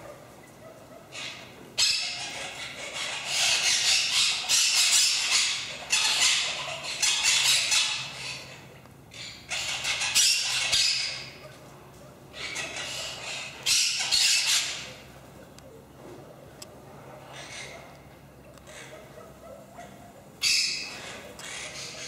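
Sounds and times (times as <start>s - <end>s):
birds squawking and chattering: 0.0s - 22.0s.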